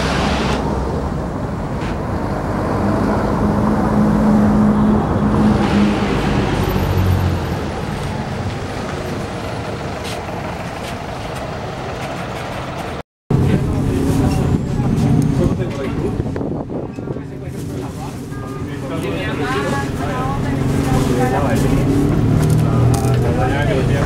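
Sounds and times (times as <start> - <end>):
bus diesel engine running: 0.0 - 24.0
road traffic noise: 0.0 - 24.0.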